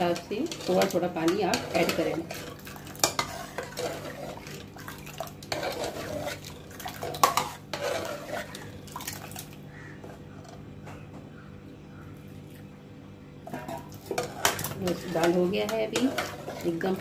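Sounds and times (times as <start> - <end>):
ladle stirring and scraping pot: 0.0 - 10.6, 13.4 - 17.0.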